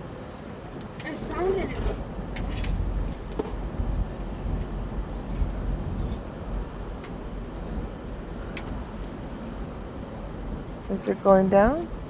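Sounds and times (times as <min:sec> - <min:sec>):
vehicle engines and traffic rumble: 0:00.0 - 0:12.0.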